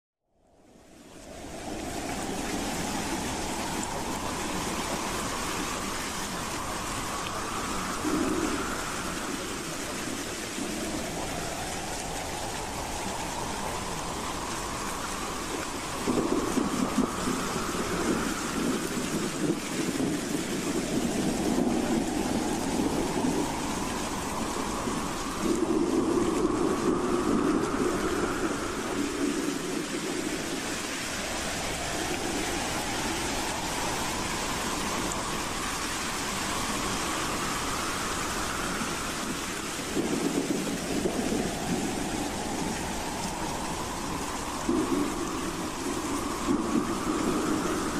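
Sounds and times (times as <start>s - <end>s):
howling wind: 0.2s - 47.9s.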